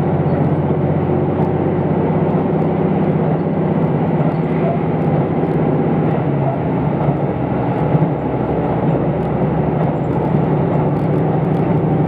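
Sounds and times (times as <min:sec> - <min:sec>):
diesel engine drone: 0:00.0 - 0:12.0
wheels rumbling on rail: 0:00.0 - 0:12.0.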